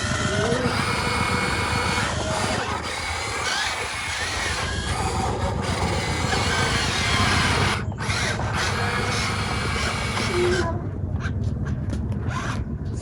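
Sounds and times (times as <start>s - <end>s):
electric motors and hydraulic pump whirring: 0.0s - 13.0s.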